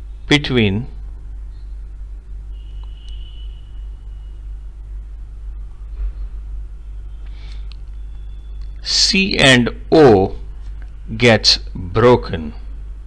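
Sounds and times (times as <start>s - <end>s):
faint high-pitched whine: 0.0s - 13.0s
steady low hum: 0.0s - 13.0s.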